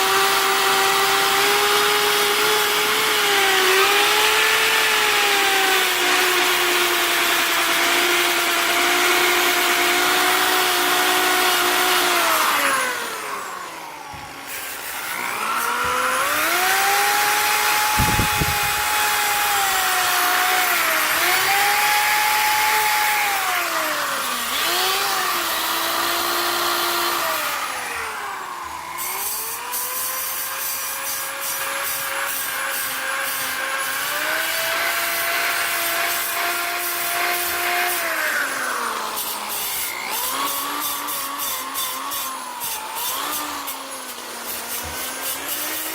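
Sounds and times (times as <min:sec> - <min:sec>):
power tool grinding wheel whine: 0:00.0 - 0:45.9.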